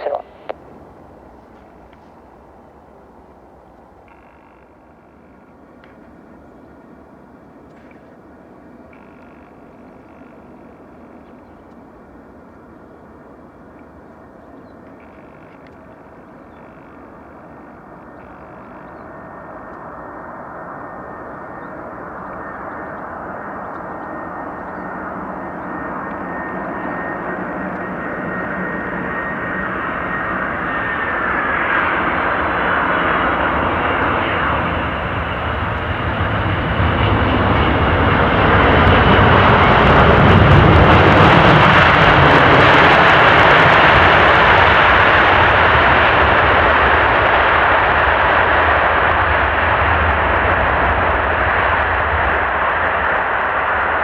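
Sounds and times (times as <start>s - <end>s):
high engine whine: 0.0s - 54.0s
jet airliner engines: 0.0s - 54.0s.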